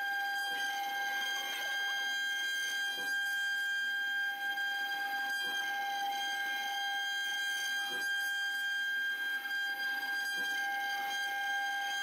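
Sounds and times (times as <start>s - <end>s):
router spindle high-pitched whine: 0.0s - 12.0s.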